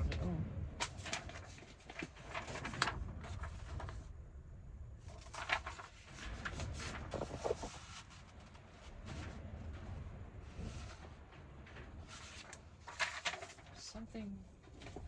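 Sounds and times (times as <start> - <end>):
paper rustling and shuffling: 0.8 - 4.1, 5.0 - 15.0.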